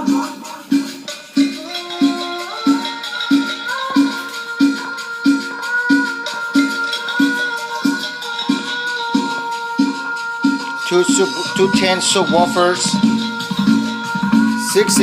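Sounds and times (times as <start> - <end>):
music over pa speaker: 0.0 - 15.0.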